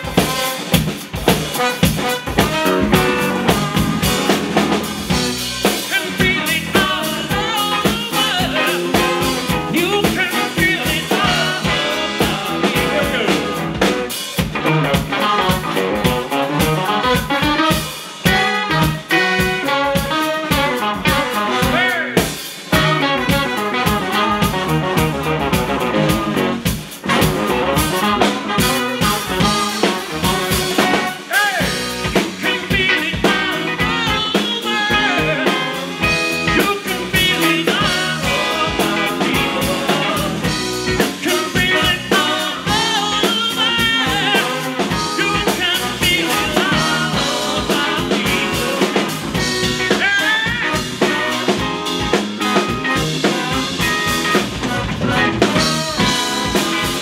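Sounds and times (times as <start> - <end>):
drum kit: 0.0 - 57.0
electric bass: 0.0 - 57.0
horn section playing: 0.0 - 57.0.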